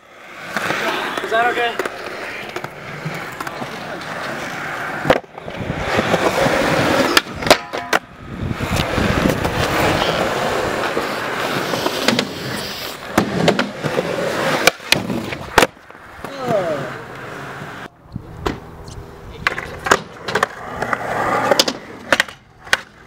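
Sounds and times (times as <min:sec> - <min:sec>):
skateboard wheels rolling on concrete: 0:00.0 - 0:23.0
skateboard clacking on ground: 0:00.3 - 0:17.3, 0:18.4 - 0:23.0.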